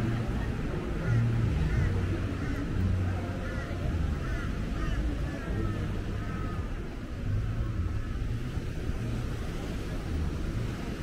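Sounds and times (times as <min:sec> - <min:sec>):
steady haze noise: 0:00.0 - 0:11.0.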